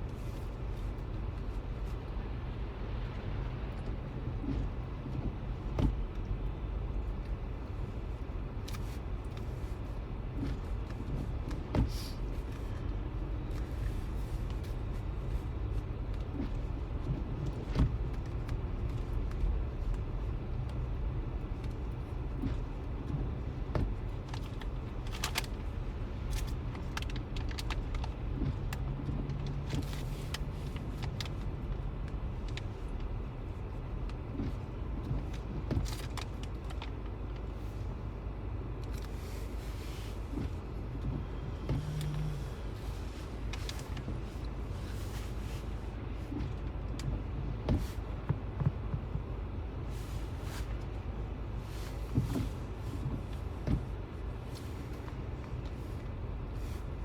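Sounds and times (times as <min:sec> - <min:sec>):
car road noise rumble: 0:00.0 - 0:57.0.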